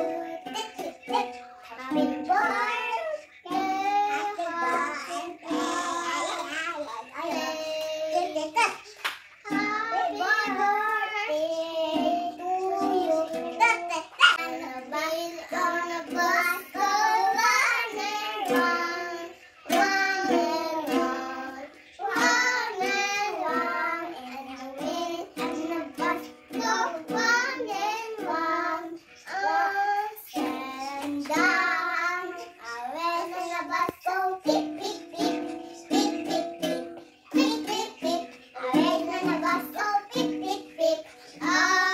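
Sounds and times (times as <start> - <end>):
girl singing: 0.0 - 41.9
ukulele strumming: 0.0 - 41.9.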